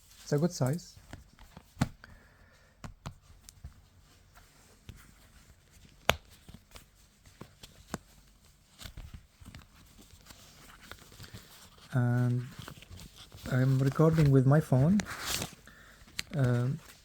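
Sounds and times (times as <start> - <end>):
hands handling leather wallet: 0.1 - 17.0.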